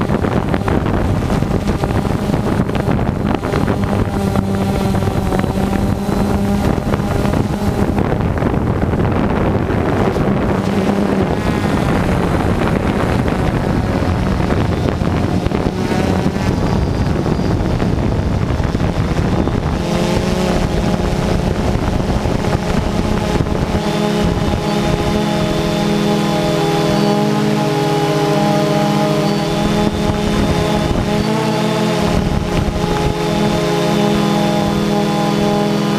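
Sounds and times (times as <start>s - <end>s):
drone motors buzzing: 0.0s - 35.9s
wind noise on microphone: 0.0s - 35.9s.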